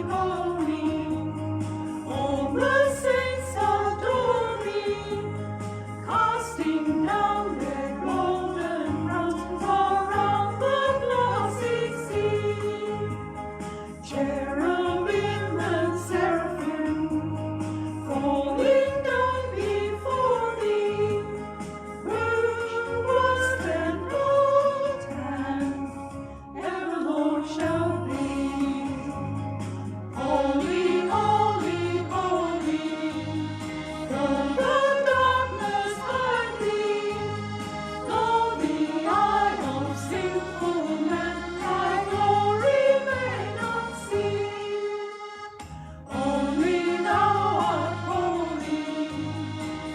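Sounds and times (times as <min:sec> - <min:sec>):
choir singing: 0:00.0 - 0:13.3, 0:14.0 - 0:29.4, 0:30.2 - 0:49.9.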